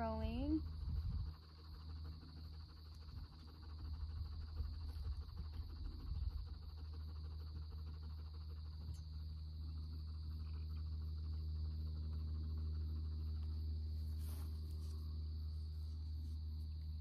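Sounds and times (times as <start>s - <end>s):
crickets chirring: 0.0s - 17.0s
low steady rumble: 0.0s - 17.0s.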